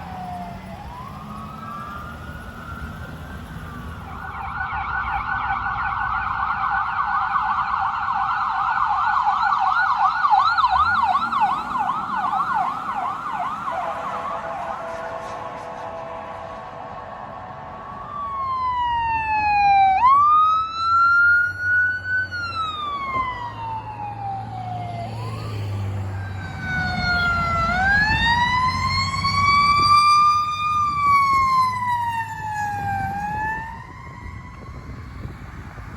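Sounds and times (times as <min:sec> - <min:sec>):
heavy vehicle engine rumbling: 0:00.0 - 0:08.2, 0:10.5 - 0:20.7, 0:21.6 - 0:35.9
emergency siren wailing: 0:00.0 - 0:35.9.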